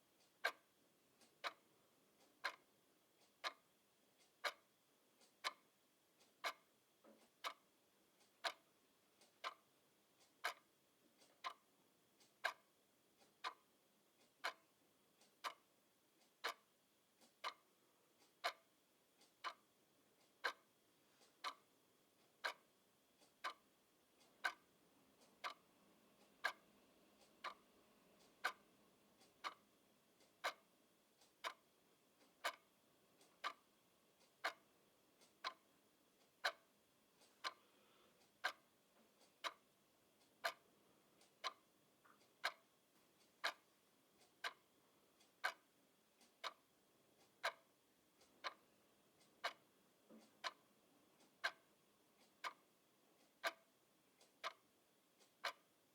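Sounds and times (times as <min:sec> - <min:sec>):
clock ticking: 0:00.0 - 0:55.9.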